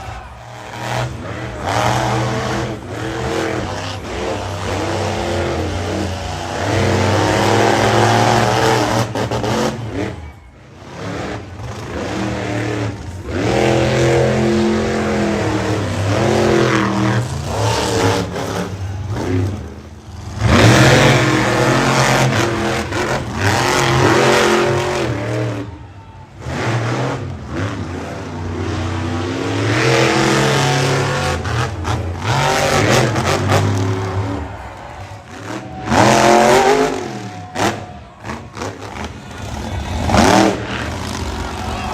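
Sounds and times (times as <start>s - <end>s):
truck engines revving hard: 0.0s - 41.9s.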